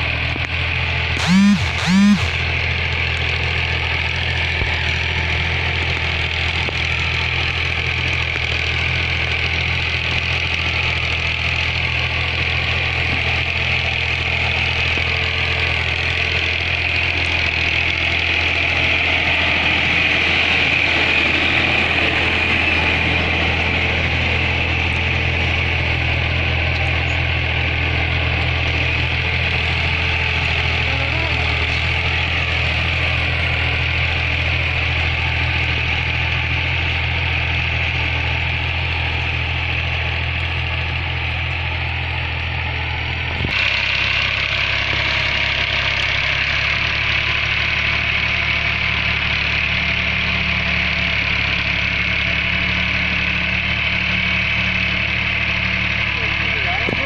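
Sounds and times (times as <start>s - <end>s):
diesel tractor engine idling: 0.0s - 57.0s.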